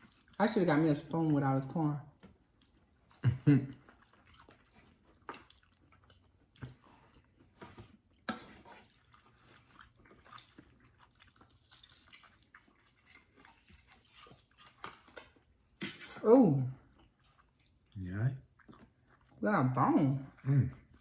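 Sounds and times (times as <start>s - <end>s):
chewing and mouth sounds: 0.0s - 21.0s.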